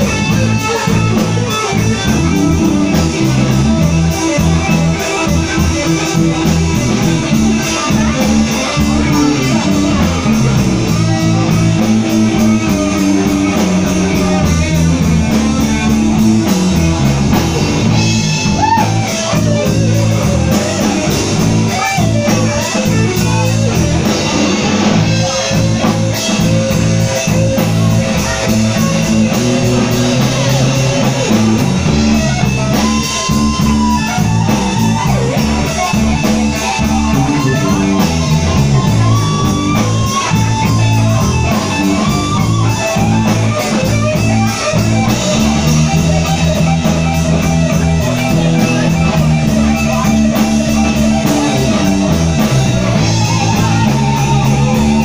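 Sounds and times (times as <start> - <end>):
blues band playing: 0.0 - 55.0
electric guitar lead: 0.0 - 55.0.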